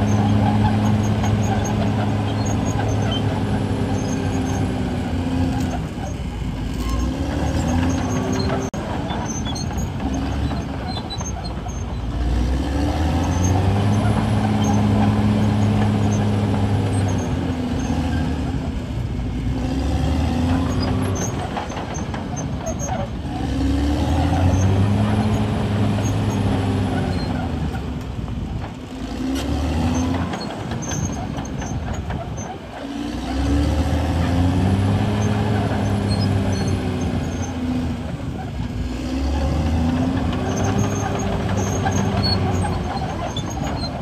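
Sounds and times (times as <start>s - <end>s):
bulldozer diesel engine under load: 0.0s - 44.0s.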